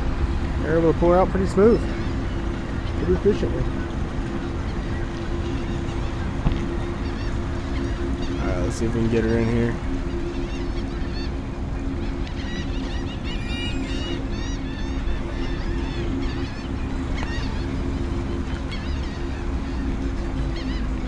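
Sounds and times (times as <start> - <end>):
birds calling: 0.0 - 21.0
boat engine idling: 0.0 - 21.0.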